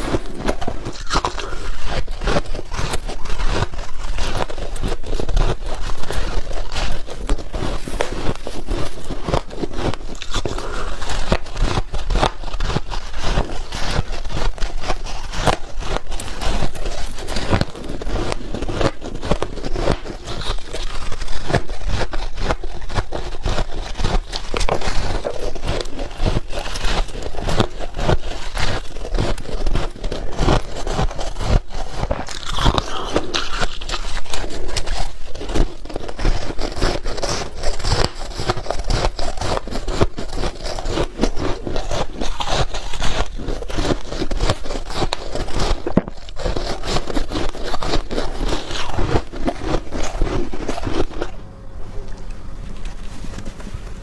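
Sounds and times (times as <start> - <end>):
biting and crunching ice: 0.0 - 54.0.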